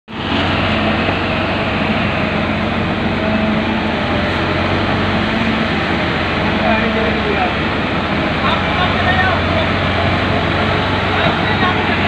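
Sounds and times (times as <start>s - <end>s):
diesel engine droning: 0.1s - 12.0s.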